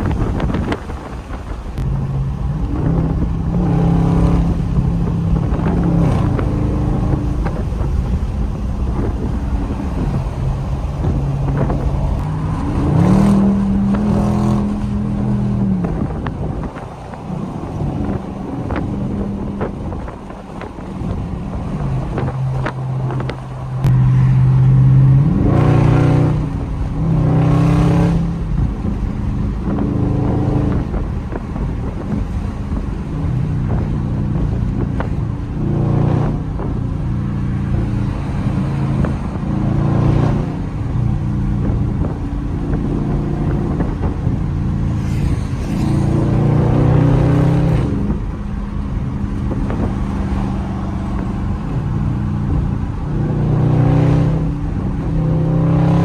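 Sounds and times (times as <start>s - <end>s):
car exhaust accelerating: 0.0s - 56.0s.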